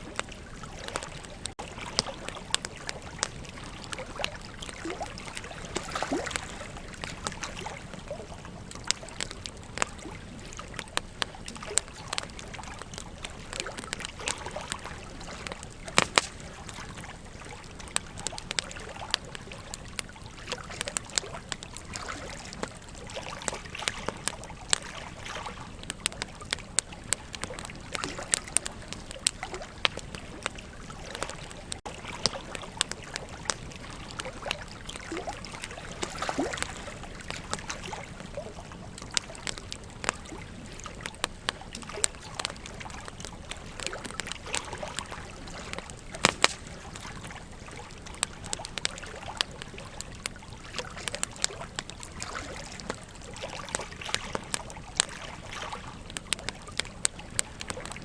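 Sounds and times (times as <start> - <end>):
burning wood crackling: 0.0 - 58.0.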